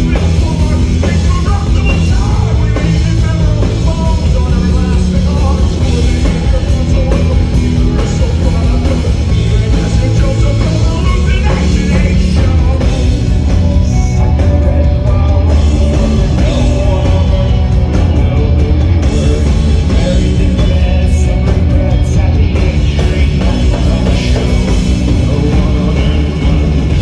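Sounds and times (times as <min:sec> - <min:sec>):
live rock band playing: 0:00.0 - 0:27.0
person singing: 0:00.0 - 0:27.0.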